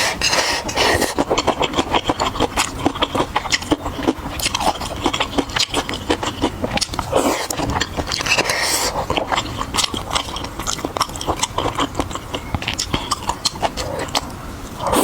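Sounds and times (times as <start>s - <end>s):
food being chewed: 0.0s - 15.0s
mouth clicks and crackles: 0.0s - 15.0s.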